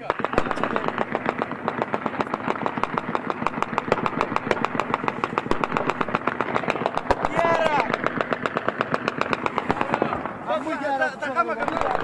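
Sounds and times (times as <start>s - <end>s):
automatic gunfire: 0.0s - 10.5s, 11.6s - 12.0s.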